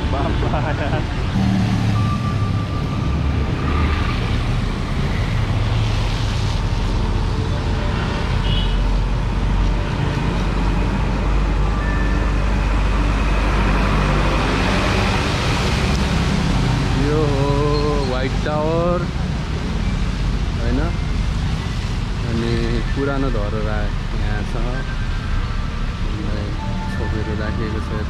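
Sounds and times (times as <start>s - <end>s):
vehicle engines and tyre noise: 0.0s - 28.0s.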